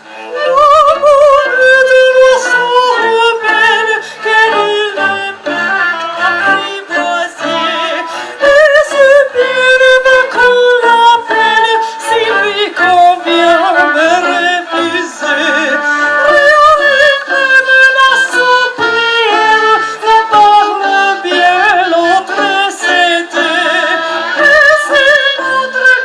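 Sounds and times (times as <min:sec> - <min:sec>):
classical singing with vibrato: 0:00.0 - 0:26.0
orchestra with bowed strings: 0:00.0 - 0:26.0.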